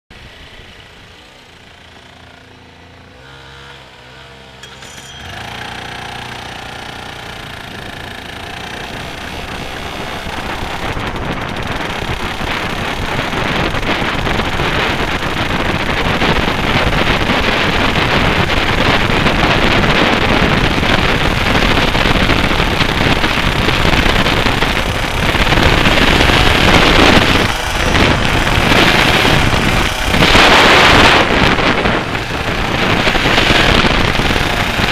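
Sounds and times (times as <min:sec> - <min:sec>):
two-stroke kart engine revving: 0:00.1 - 0:34.9.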